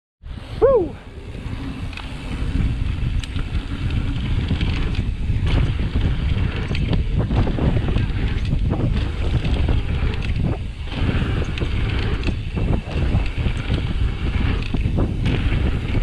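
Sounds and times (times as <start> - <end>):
wind buffeting microphone: 0.2 - 16.0
bike rattles and clicks: 0.3 - 16.0.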